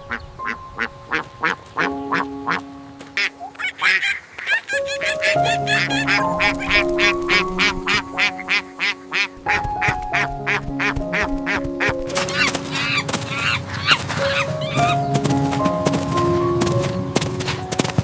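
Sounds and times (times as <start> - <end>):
background music with simple melody: 0.0 - 4.1, 4.7 - 18.0
ducks quacking: 0.1 - 2.6, 3.2 - 15.1.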